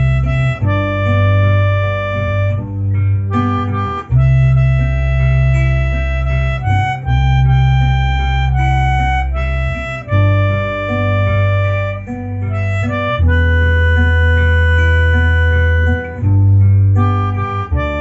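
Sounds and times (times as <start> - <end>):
backing track with guitar and bass: 0.0 - 18.0
melodica playing slow melody: 0.0 - 18.0.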